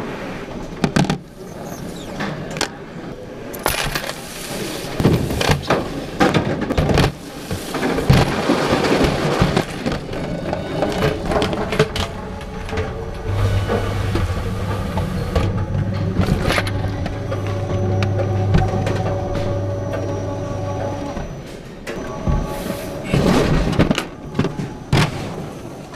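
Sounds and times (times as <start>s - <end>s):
tray clattering over metal rollers: 4.9s - 25.9s.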